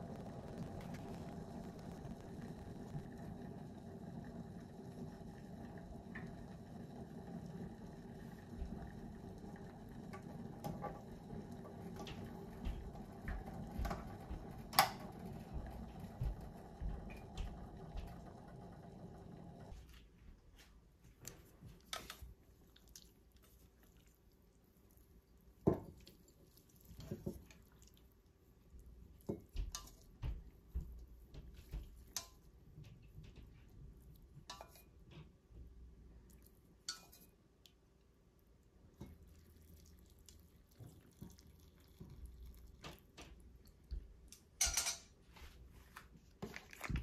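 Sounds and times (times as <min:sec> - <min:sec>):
broth bubbling in saucepan: 0:00.0 - 0:19.8, 0:21.9 - 0:45.1, 0:46.3 - 0:47.0.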